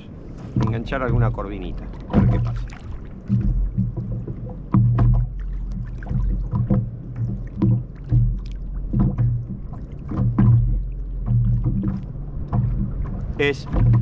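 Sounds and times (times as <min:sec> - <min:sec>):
waves slapping plastic kayak hull: 0:00.0 - 0:14.0.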